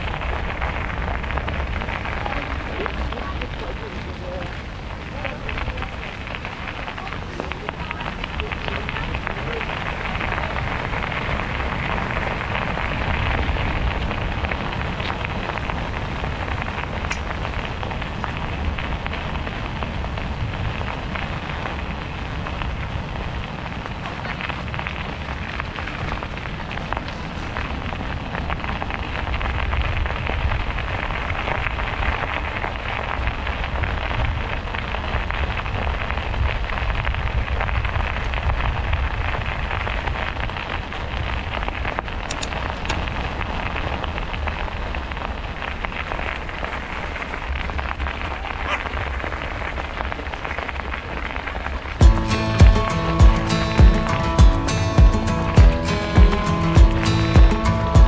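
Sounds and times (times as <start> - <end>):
bicycle tyres rolling on trail: 0.0 - 52.1.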